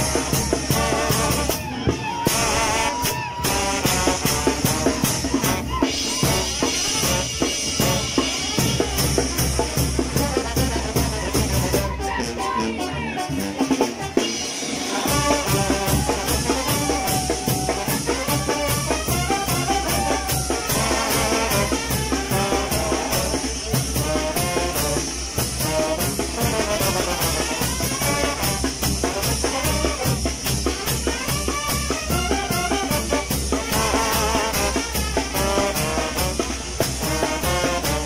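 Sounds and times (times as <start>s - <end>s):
steady drum beat: 0.0s - 12.6s, 13.6s - 38.0s
brass band playing: 0.0s - 38.0s.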